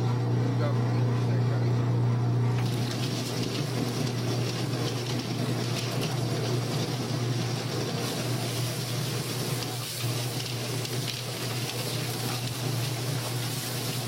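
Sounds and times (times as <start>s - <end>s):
motor hum: 0.0s - 14.0s.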